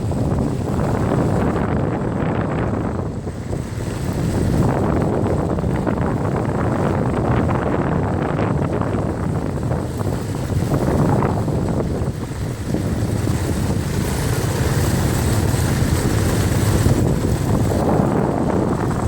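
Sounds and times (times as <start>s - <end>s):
atv engine running: 0.0s - 19.0s
wind buffeting microphone: 0.0s - 19.0s.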